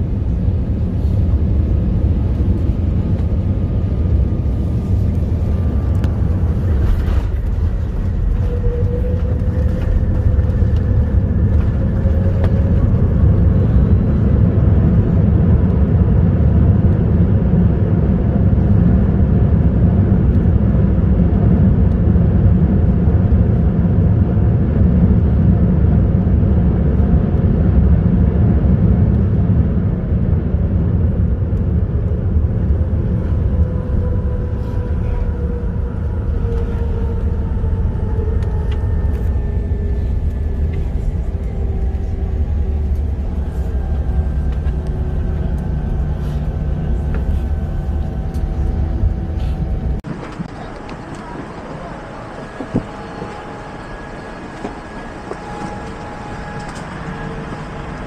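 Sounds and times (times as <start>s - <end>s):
airliner cabin rumble: 0.0s - 58.0s
jet engine whine: 0.0s - 58.0s.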